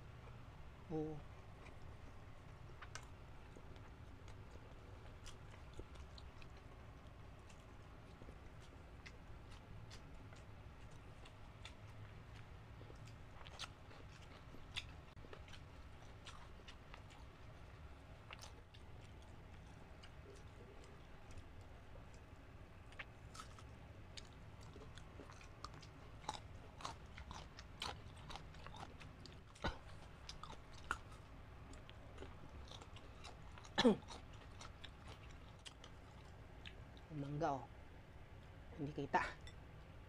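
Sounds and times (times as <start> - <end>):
chewing and crunching food: 0.1 - 40.0.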